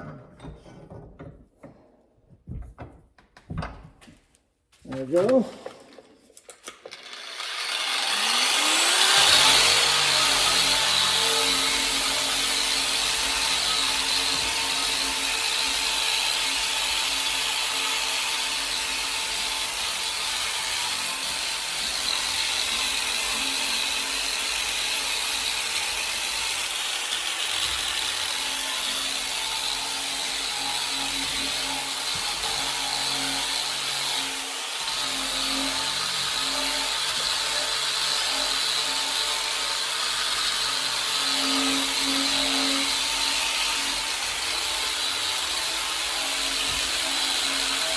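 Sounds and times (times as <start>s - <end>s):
electric power tool motor: 6.6s - 47.9s.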